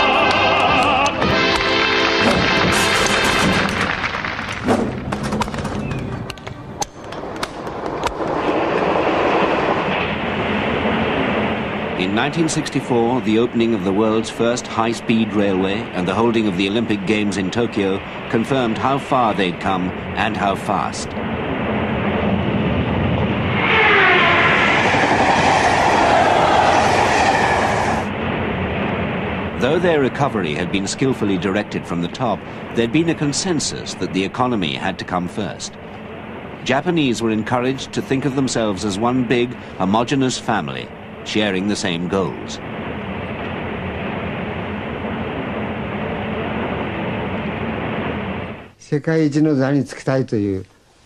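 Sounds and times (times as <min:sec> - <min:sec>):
train rushing noise: 0:00.0 - 0:48.7
falling whine: 0:00.0 - 0:48.8.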